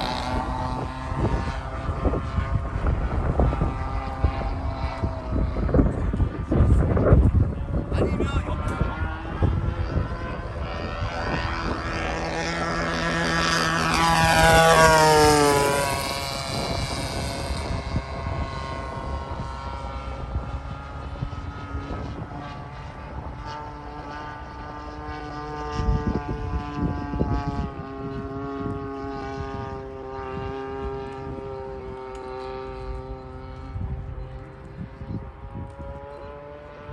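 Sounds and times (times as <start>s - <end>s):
model plane engine passing: 0.0s - 36.9s.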